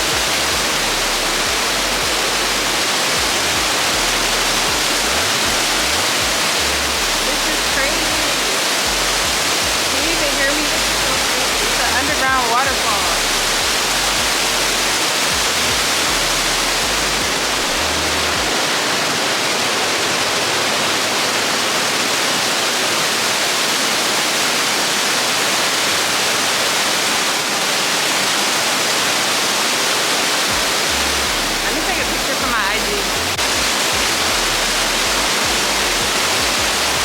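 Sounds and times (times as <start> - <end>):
underground waterfall rushing: 0.0 - 37.0.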